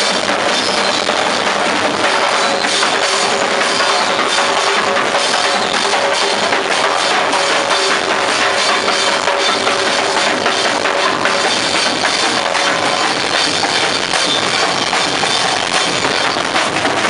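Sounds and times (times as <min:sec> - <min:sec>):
snare drums: 0:00.0 - 0:17.0.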